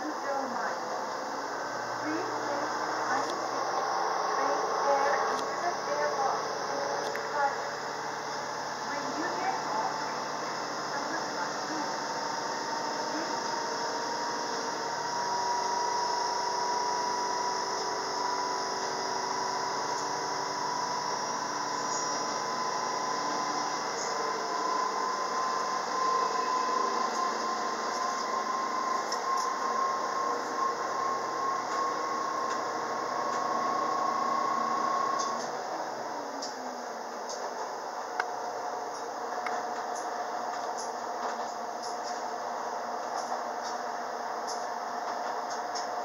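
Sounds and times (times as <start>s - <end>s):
railcar drive whine rising: 0.0s - 46.0s
wheels running on rail: 0.0s - 46.0s.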